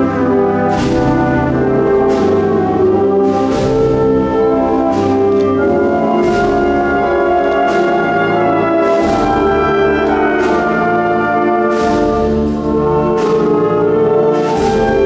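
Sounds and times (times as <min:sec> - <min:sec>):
slow steady drum beat: 0:00.0 - 0:15.0
wind band playing a march: 0:00.0 - 0:15.0.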